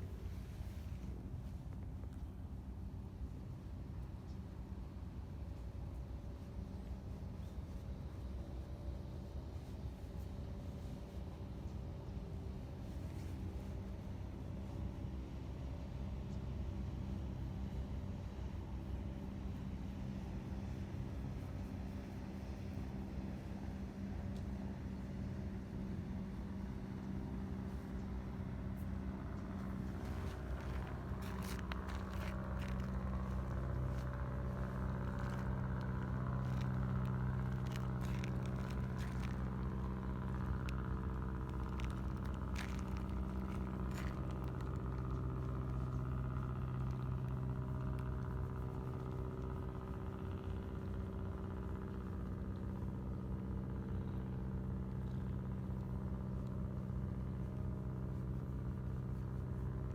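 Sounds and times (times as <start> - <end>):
low motor hum: 0.0 - 59.9
light clicks and scrapes: 5.4 - 14.8, 17.2 - 59.9.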